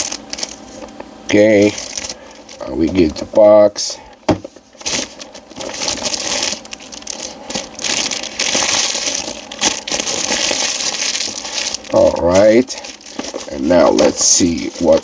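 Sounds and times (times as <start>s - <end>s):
packaging rustling and crinkling: 0.0s - 3.3s, 4.3s - 15.0s.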